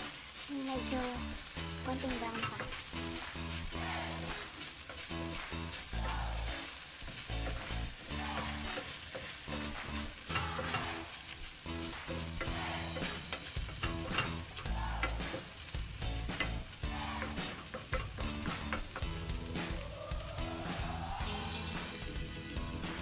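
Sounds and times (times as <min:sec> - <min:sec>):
meat sizzling in a frying pan: 0:00.0 - 0:23.0
wooden spatula scraping a pan: 0:00.1 - 0:19.8.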